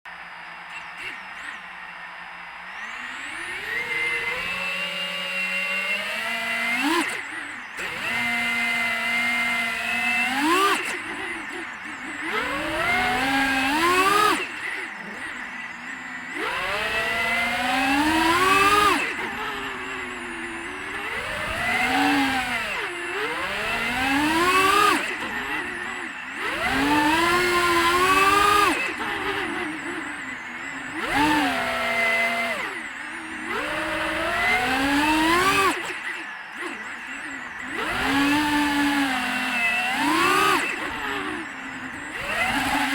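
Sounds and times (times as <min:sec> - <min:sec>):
drone motors whining: 0:00.1 - 0:42.9.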